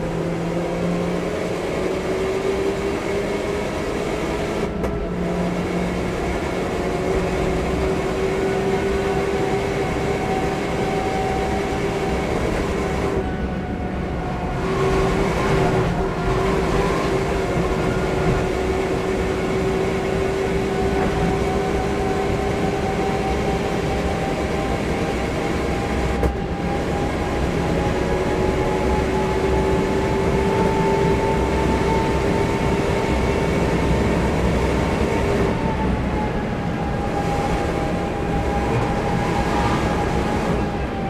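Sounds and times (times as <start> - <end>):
car engine at high revs: 0.0 - 41.0
wind and road noise: 0.0 - 41.0.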